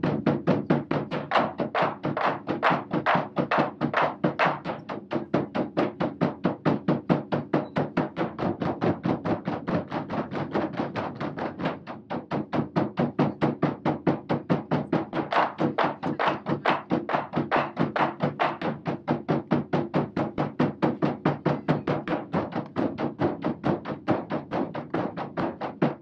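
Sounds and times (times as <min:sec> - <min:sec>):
taiko drums beating: 0:00.0 - 0:26.0.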